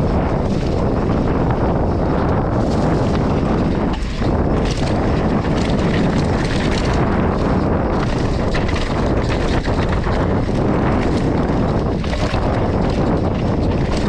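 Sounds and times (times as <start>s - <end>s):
bike rattles and knocks: 0.0s - 14.0s
wind buffeting microphone: 0.0s - 14.0s.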